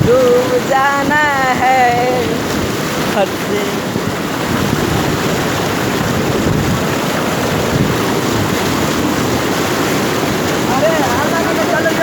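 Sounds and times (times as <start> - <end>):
floodwater sloshing and splashing: 0.0 - 12.0
wind buffeting microphone: 0.0 - 12.0.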